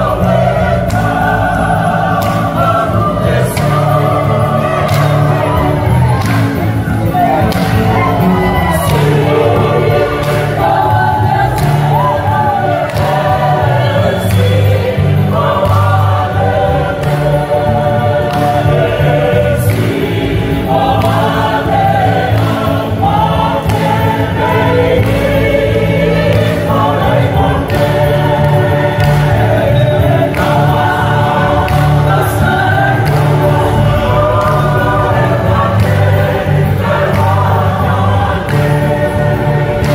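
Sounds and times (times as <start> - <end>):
mixed choir singing: 0.0 - 39.9.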